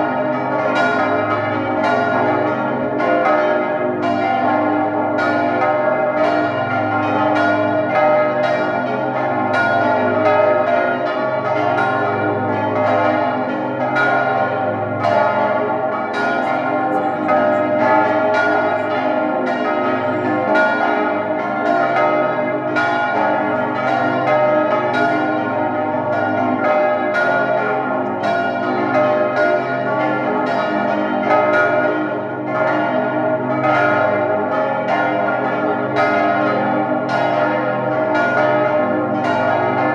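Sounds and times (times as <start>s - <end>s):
swinging church bells pealing: 0.0s - 39.9s.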